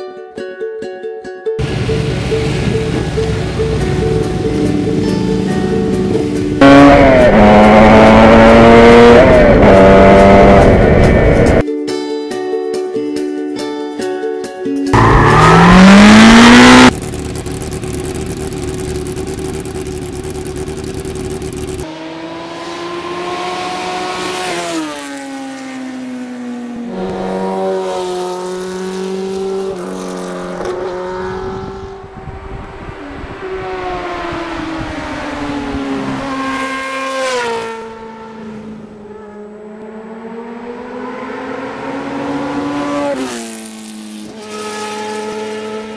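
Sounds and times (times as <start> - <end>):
motorcycle engine accelerating: 1.6 - 11.6, 15.0 - 45.9.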